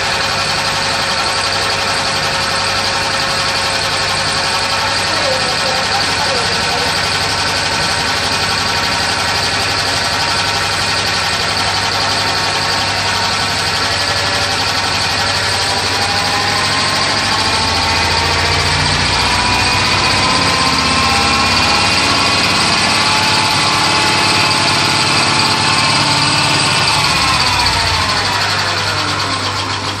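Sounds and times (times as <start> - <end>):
model engine running: 0.0 - 30.0.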